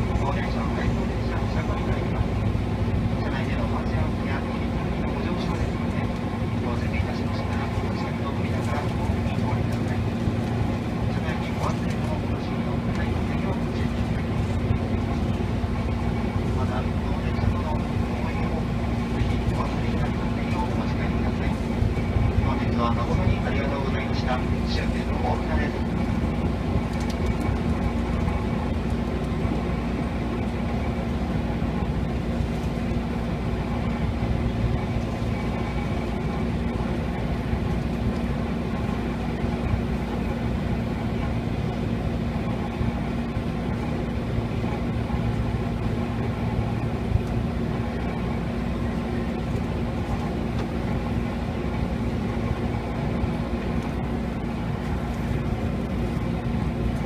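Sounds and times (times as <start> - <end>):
constant low hum: 0.0 - 57.0
train interior rumble: 0.0 - 57.0.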